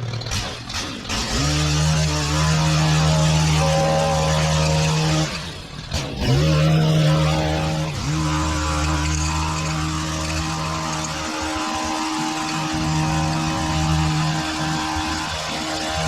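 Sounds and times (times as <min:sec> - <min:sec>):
small petrol engine revving: 0:00.0 - 0:16.0.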